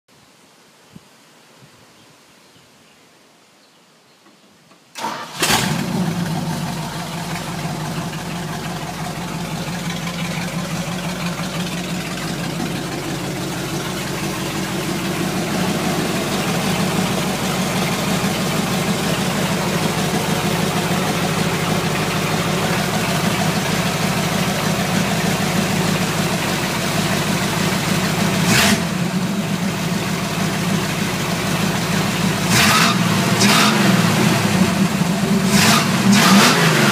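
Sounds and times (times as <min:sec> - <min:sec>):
engine cranking and idling: 0:04.9 - 0:36.9.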